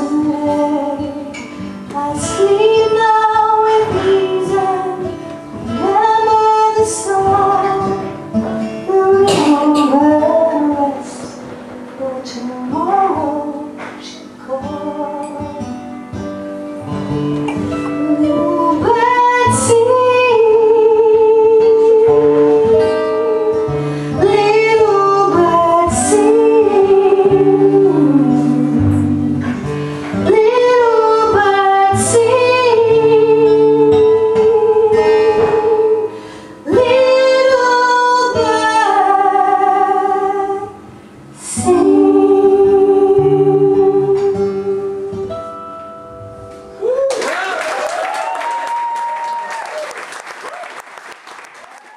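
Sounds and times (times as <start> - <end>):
woman singing with vibrato: 0.0 - 16.2, 17.7 - 45.5
acoustic guitar: 0.0 - 51.9.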